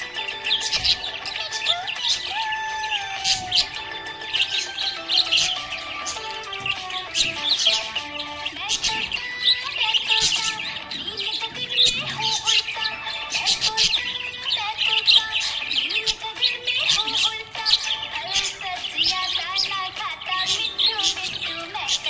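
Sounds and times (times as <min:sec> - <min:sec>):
budgerigars chirping and warbling: 0:00.0 - 0:22.0.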